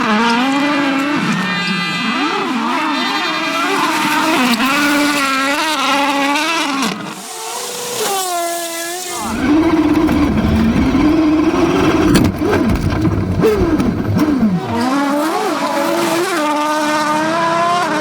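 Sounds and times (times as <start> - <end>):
rally car engines revving: 0.0 - 18.0.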